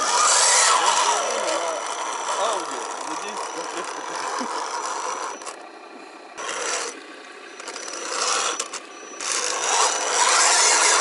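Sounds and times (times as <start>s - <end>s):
electric motor whining and grinding: 0.0s - 11.0s.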